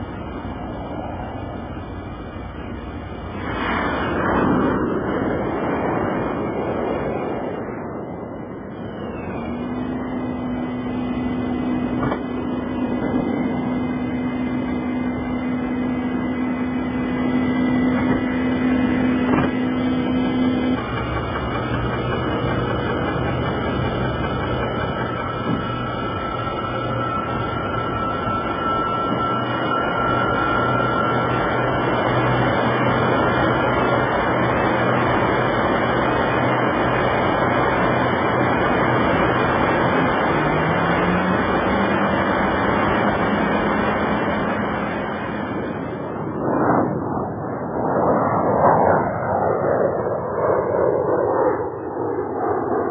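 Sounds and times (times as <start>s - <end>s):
aircraft engine drone: 0.0s - 52.9s
airflow rushing: 0.0s - 52.9s
faint high whine: 0.0s - 52.9s.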